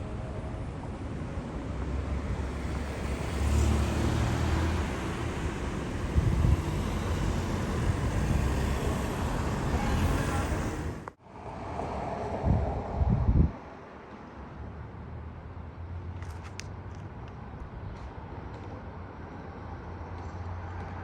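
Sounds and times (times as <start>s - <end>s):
vehicles passing: 0.0s - 21.0s.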